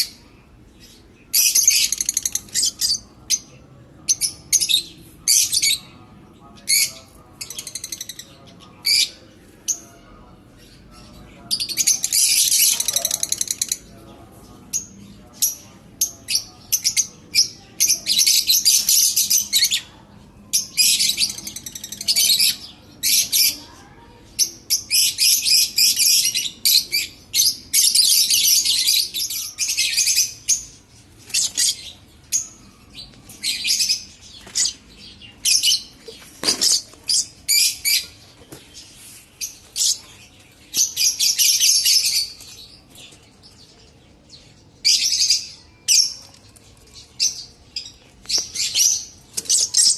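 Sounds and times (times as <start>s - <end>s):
lovebirds chattering: 0.0s - 49.9s.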